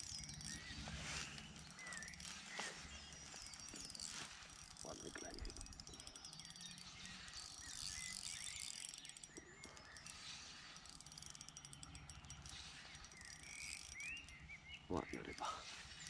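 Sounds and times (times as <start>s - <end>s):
fishing reel clicking whir: 0.0s - 16.0s.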